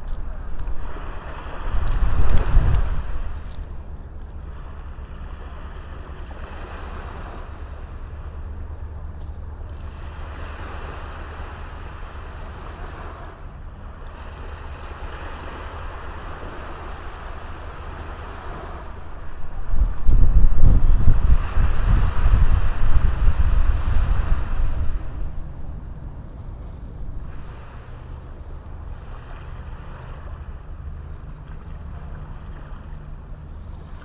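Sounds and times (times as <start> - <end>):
sea waves washing on beach: 0.0 - 34.0.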